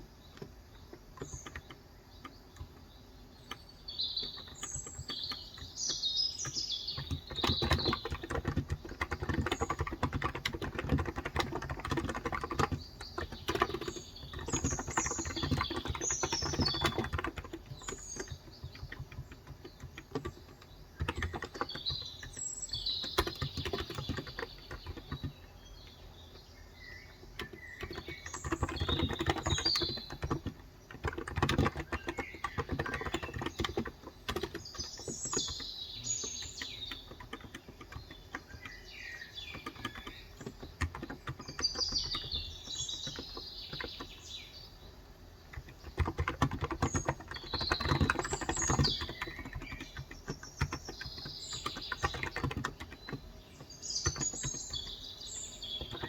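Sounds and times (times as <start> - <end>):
birds chirping: 0.0 - 56.0
soft keyboard keystrokes: 0.3 - 44.4, 45.5 - 56.0.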